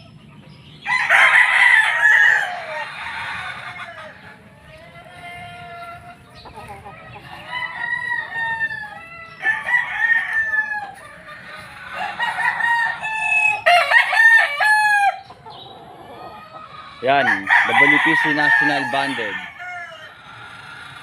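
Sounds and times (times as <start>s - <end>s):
roosters crowing: 0.0s - 21.0s.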